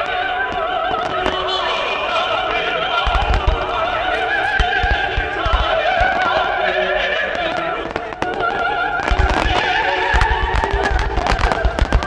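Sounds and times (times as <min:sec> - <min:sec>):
fireworks bursting: 0:00.0 - 0:12.0
operatic singing: 0:00.0 - 0:12.0.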